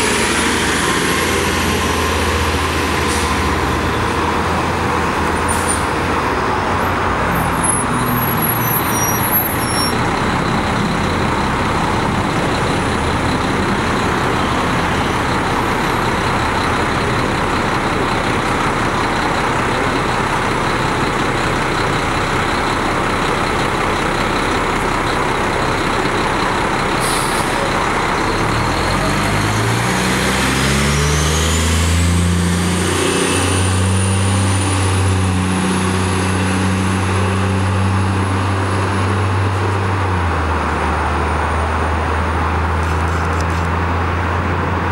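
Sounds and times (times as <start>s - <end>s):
diesel bus engine: 0.0s - 44.9s.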